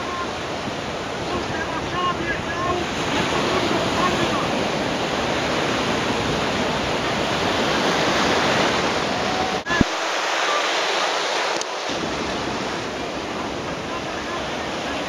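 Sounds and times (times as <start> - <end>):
surf breaking in shallows: 0.0 - 15.0.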